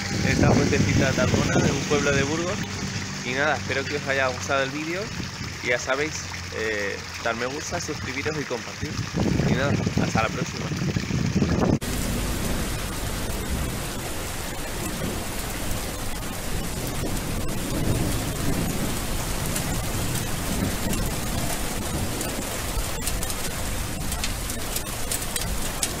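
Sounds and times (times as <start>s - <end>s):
low rumble: 0.0s - 7.9s, 8.8s - 26.0s
rain hissing: 0.0s - 10.2s, 11.6s - 26.0s.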